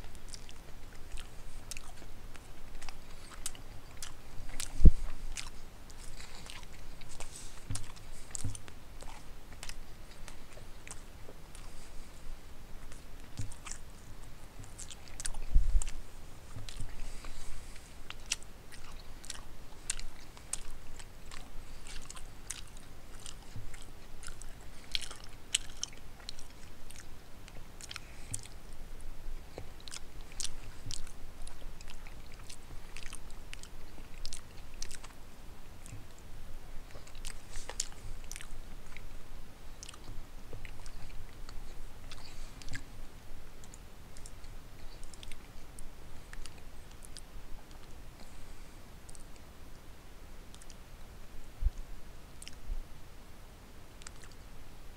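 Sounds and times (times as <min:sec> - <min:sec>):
person chewing food: 0:00.0 - 0:28.8, 0:29.5 - 0:49.5, 0:50.5 - 0:50.8, 0:52.4 - 0:52.6, 0:54.0 - 0:54.4.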